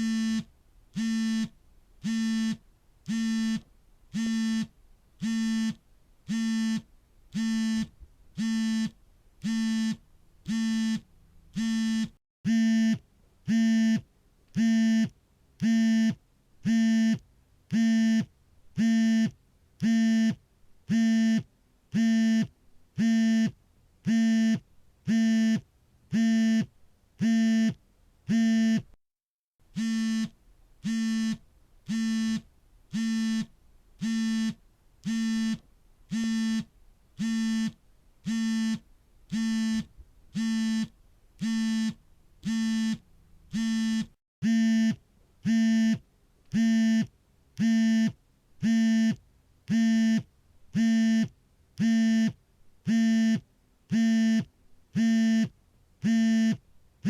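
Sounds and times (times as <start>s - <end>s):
smartphone vibrating: 0.0s - 14.0s, 14.6s - 28.9s, 29.7s - 56.6s.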